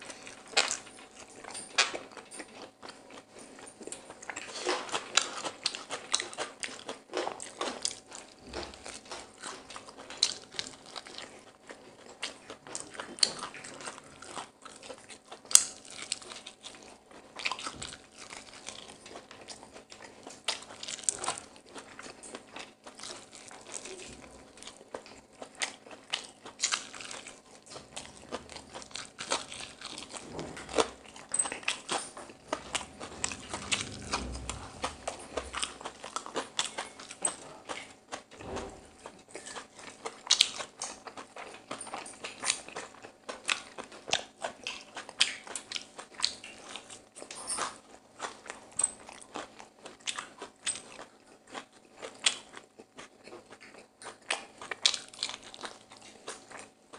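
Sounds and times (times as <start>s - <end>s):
open-mouthed chewing: 0.0s - 56.9s.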